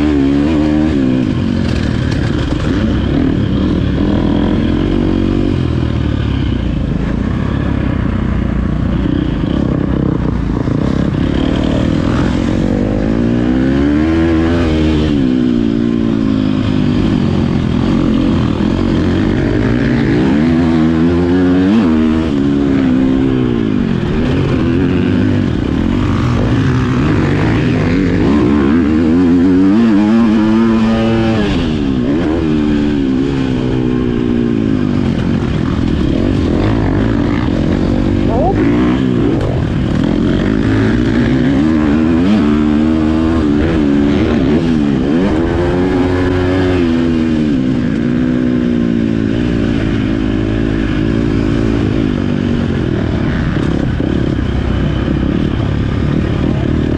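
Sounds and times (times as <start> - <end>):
dirt bike engine revving: 0.0 - 54.4.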